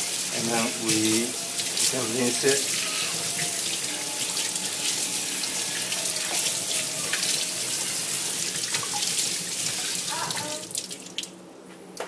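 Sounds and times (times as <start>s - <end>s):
water running from a tap: 0.0s - 11.3s.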